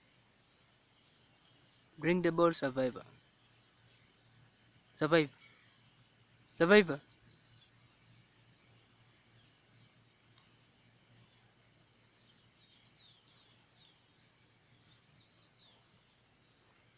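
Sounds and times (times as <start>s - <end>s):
faint high bird chirping: 0.0s - 16.9s.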